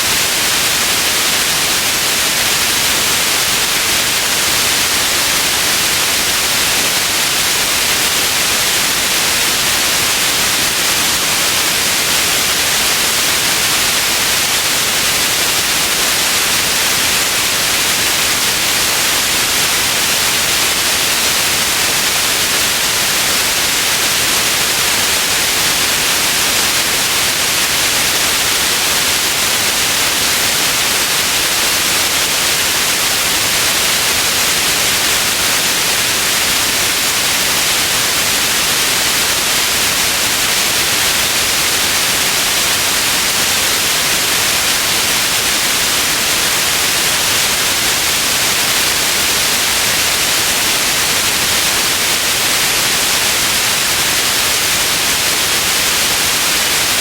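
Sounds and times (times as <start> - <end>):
loud white noise hiss: 0.0 - 57.0.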